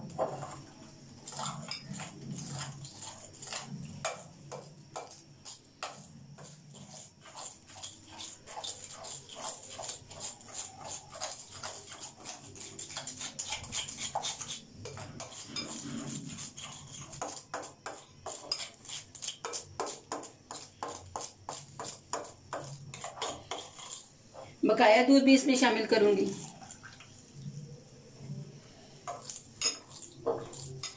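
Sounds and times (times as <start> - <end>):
fork scraping glass bowl: 0.1 - 24.5, 29.0 - 30.9.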